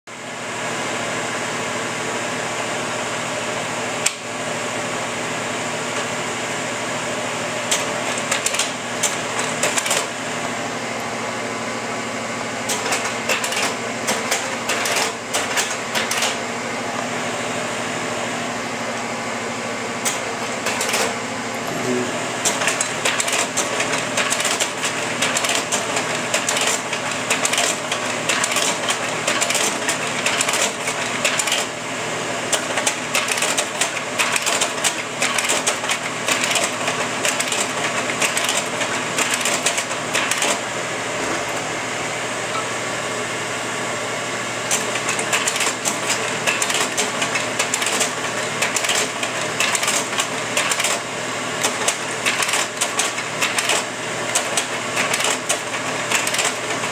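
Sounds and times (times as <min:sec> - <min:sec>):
slide projector fan whirring: 0:00.1 - 0:56.9.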